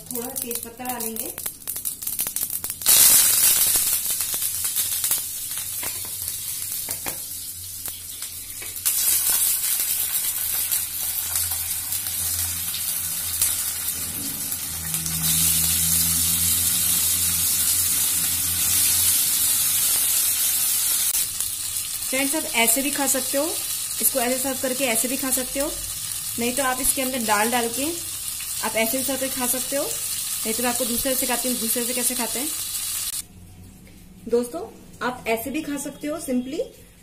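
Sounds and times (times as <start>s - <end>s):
oil sizzling in frying pan: 0.0s - 33.2s.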